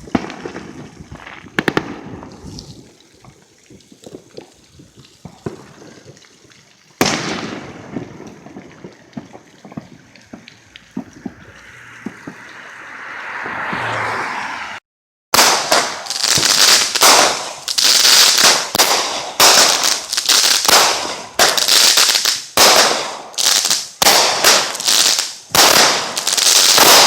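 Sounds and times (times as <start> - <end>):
fireworks bangs and crackles: 0.0 - 14.0, 15.3 - 27.0.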